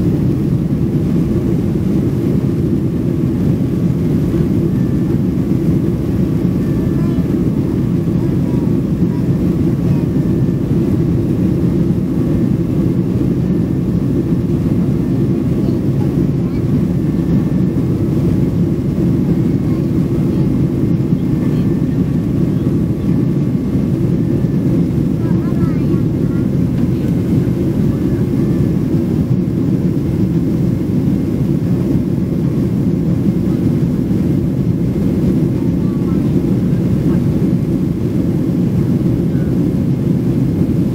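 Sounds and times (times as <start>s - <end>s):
airliner cabin engine roar: 0.0s - 40.9s.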